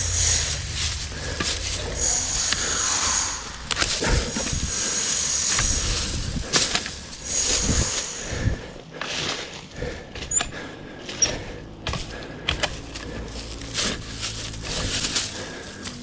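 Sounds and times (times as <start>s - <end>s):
branches cracking: 0.0s - 16.0s
shrub branches rustling: 0.0s - 16.0s.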